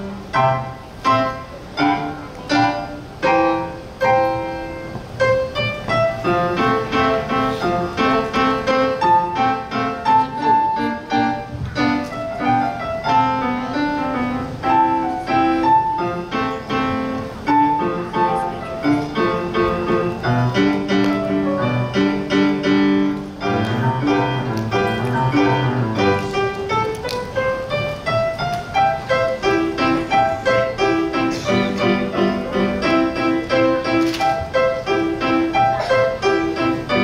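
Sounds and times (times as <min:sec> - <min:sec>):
solo piano piece: 0:00.0 - 0:37.0.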